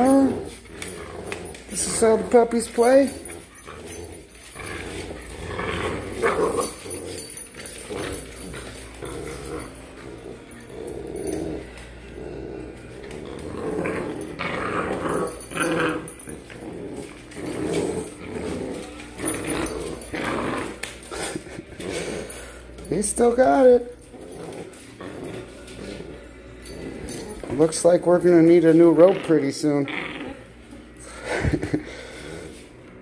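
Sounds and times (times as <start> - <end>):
puppies play-growling: 0.0 - 33.0.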